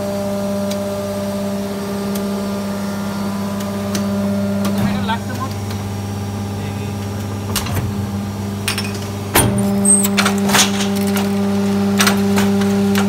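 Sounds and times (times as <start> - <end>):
hydraulic machine hum: 0.0 - 13.0.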